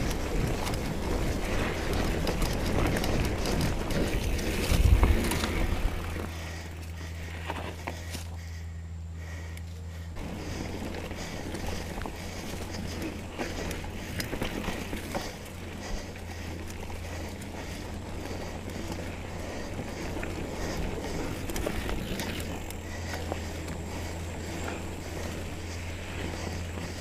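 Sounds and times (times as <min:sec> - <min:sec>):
bike clicks and rattles: 0:00.0 - 0:27.0
bike tyres rolling over dirt: 0:00.0 - 0:27.0
steady low hum: 0:00.0 - 0:27.0.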